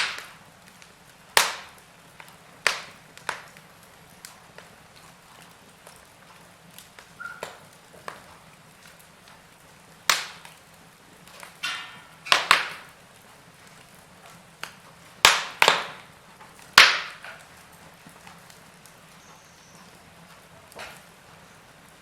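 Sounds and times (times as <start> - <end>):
burning wood popping: 0.0 - 22.0
log fire crackling: 0.0 - 22.0.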